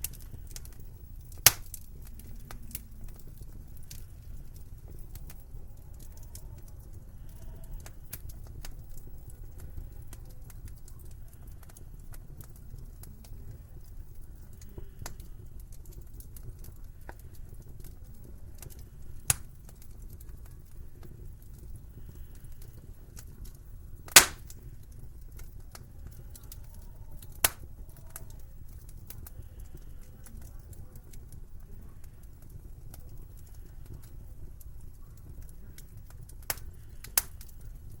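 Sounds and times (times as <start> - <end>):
low rumble of fire: 0.0 - 38.0
sharp fire pops: 0.0 - 38.0
wood fire crackling: 0.0 - 38.0.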